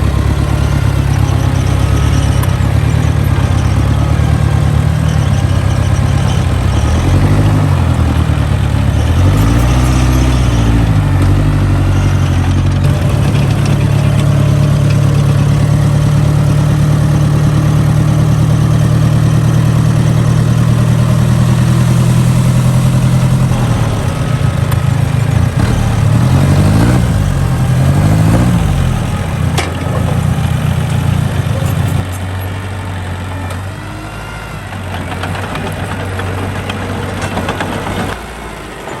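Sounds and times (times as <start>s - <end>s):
diesel engine revving: 0.0s - 39.0s.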